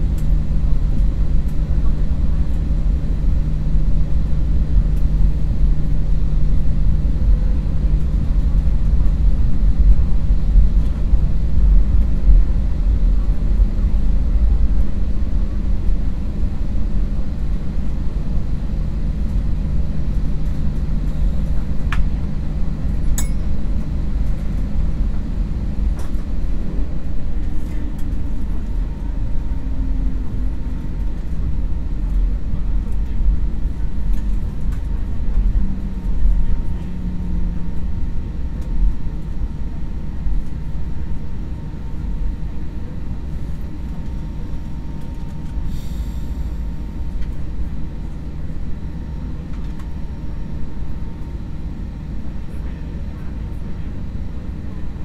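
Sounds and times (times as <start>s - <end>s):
airplane cabin rumble while taxiing: 0.0s - 55.0s.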